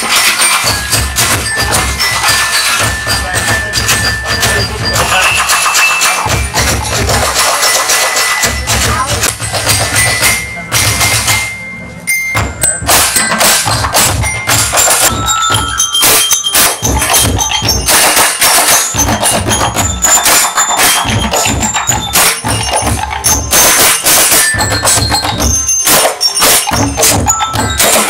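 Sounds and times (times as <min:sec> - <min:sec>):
bell-like mallet notes: 0:00.0 - 0:28.0
percussion ensemble playing: 0:00.0 - 0:28.0.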